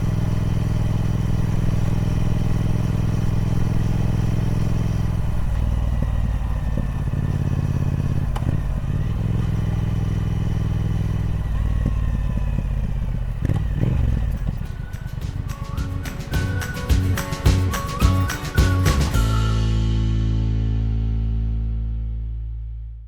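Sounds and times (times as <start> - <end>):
motorcycle engine running at low revs: 0.0 - 22.5.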